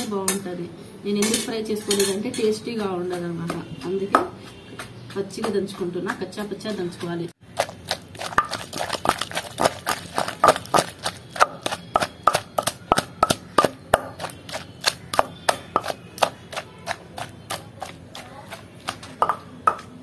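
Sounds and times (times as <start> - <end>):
pestle pounding in stone mortar: 3.0 - 20.0.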